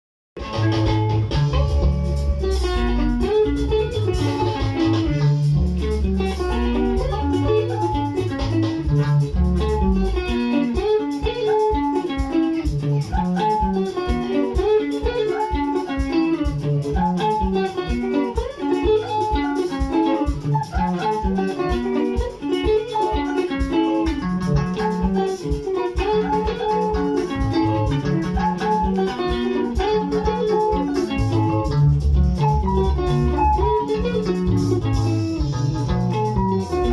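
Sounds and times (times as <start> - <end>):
bass line: 0.4 - 36.9
plucked guitar lines: 0.4 - 36.9.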